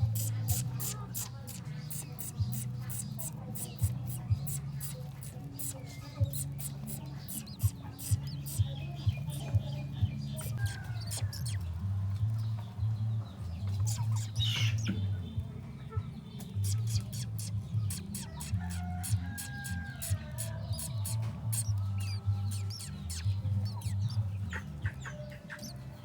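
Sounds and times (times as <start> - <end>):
birds chirping and clucking: 0.0 - 15.2, 15.9 - 26.0.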